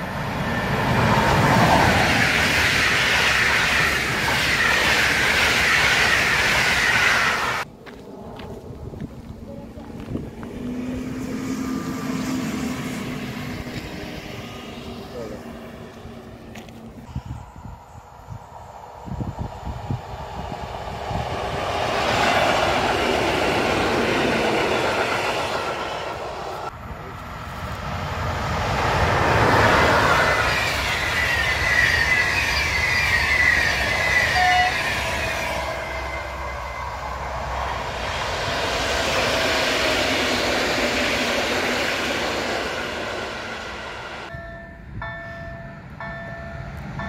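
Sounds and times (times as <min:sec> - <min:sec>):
electric trains passing: 0:00.0 - 0:47.0
locomotive high whine: 0:00.0 - 0:47.0.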